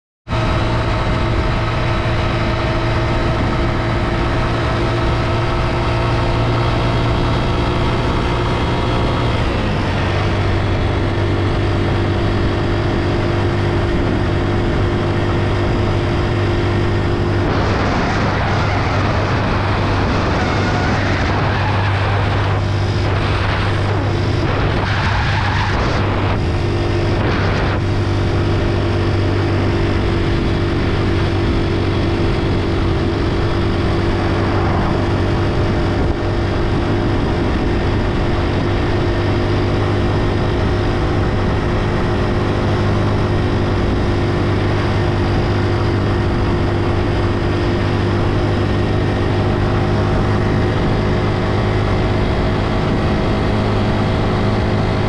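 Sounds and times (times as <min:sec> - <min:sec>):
motorcycle engine running: 0:00.3 - 0:55.0.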